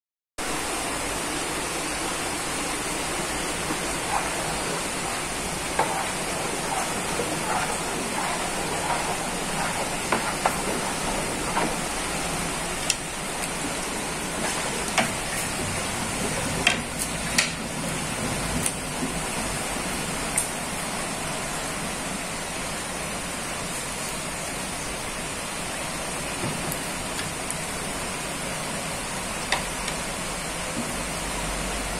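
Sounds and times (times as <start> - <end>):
rain falling: 0.4 - 31.9.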